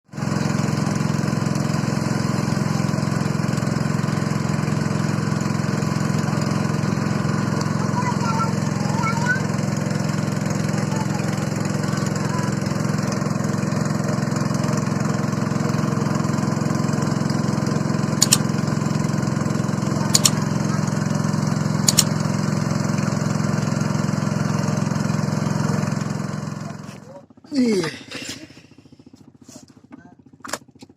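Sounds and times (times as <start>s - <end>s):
small engine running: 0.0s - 30.9s.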